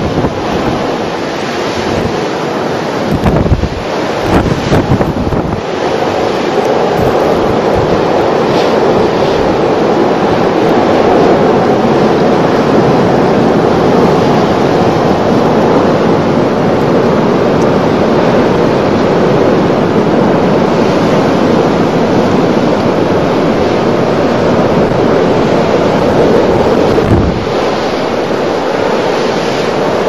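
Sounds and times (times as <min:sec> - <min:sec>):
blizzard wind rushing: 0:00.0 - 0:30.0.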